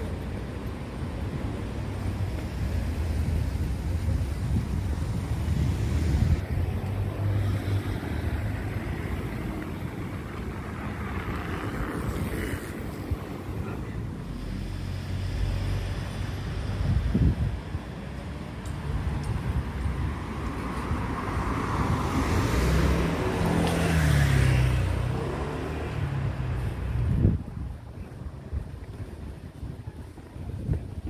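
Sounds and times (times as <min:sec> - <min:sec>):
wind buffeting microphone: 0:00.0 - 0:14.4, 0:15.2 - 0:31.0
traffic noise: 0:00.0 - 0:31.0.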